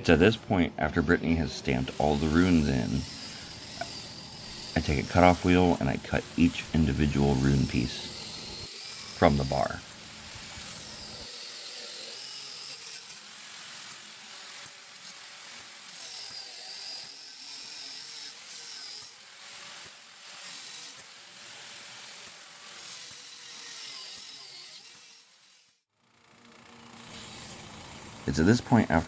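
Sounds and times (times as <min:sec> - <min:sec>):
cutoff wheel grinding steel: 0:00.0 - 0:29.0.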